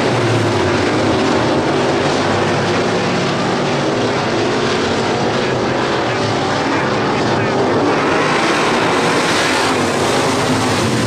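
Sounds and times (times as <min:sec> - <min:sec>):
race car engines roaring: 0:00.0 - 0:11.0.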